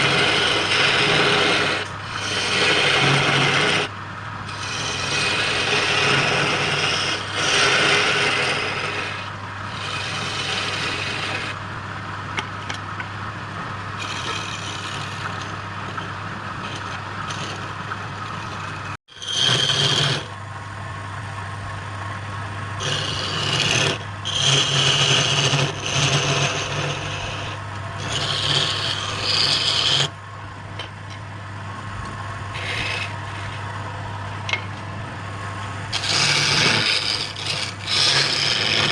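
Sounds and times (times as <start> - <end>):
turning tool rasping on wood: 0.0 - 11.7, 14.0 - 20.4, 22.8 - 31.0, 32.0 - 34.7, 35.3 - 38.9
wood lathe motor hum: 0.0 - 38.9.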